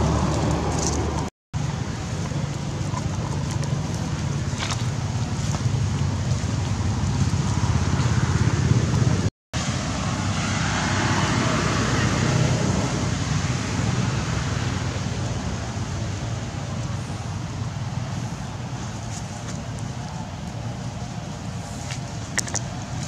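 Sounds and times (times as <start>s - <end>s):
outdoor background rumble: 0.0s - 23.0s.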